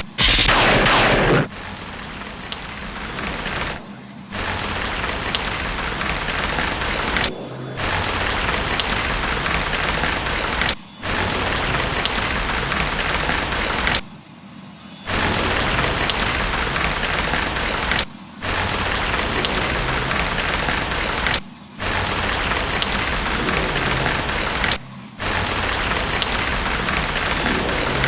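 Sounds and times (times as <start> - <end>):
heavy rain hiss: 0.0 - 14.0, 15.1 - 28.0
low rumble of thunder: 0.0 - 14.0, 15.1 - 28.0
crackles: 0.0 - 14.2, 15.1 - 28.0.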